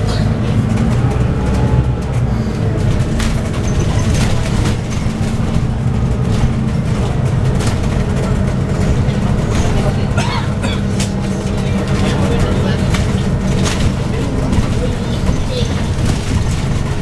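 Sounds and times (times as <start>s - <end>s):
bodywork rattles and knocks: 0.0s - 17.0s
bus engine hum: 0.0s - 17.0s.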